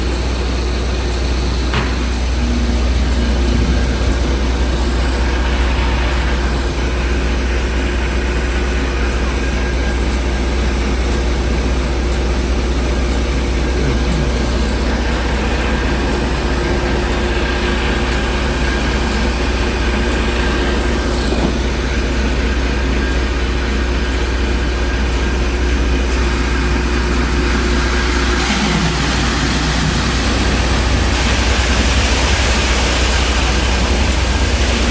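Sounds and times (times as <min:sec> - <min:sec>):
faint steady tones: 0:00.0 - 0:34.9
heavy engine droning: 0:00.0 - 0:34.9.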